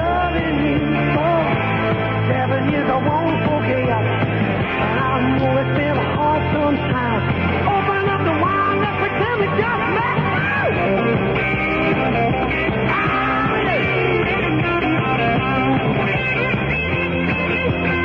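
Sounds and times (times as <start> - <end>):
rock and roll music on am radio: 0.0 - 18.0.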